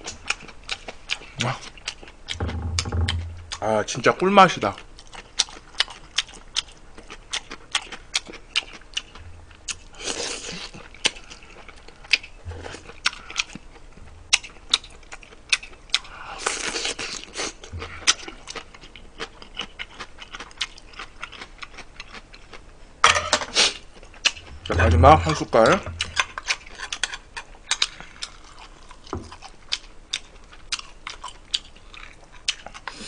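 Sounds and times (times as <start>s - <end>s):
man chewing food: 0.0s - 3.6s, 4.7s - 33.0s.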